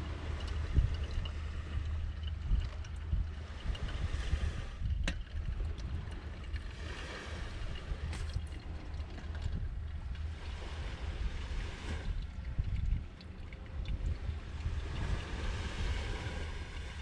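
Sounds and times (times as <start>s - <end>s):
outdoor noise: 0.0s - 17.0s
wind buffeting microphone: 0.0s - 17.0s.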